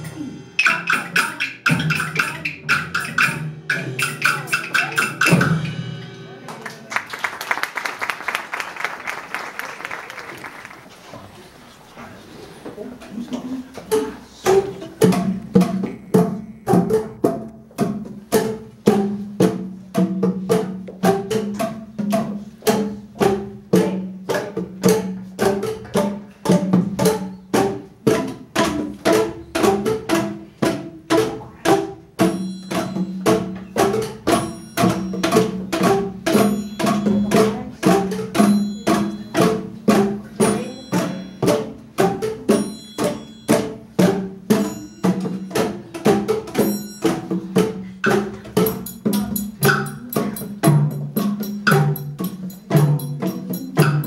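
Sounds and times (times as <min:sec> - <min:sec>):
tuned mallet percussion: 0:00.0 - 0:06.2, 0:13.8 - 0:54.0
drums: 0:00.0 - 0:07.0, 0:12.8 - 0:54.0.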